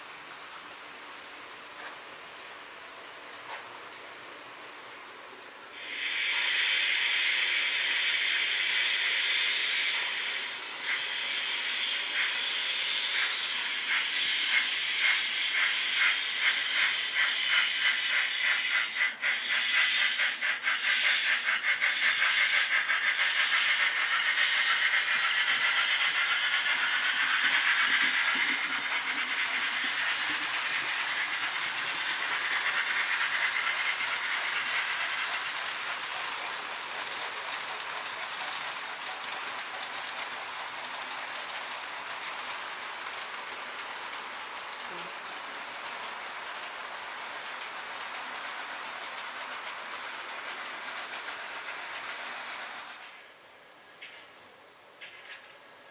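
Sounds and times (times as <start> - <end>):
steam hissing: 4.3 - 53.4
model locomotive chuffing: 5.7 - 53.3.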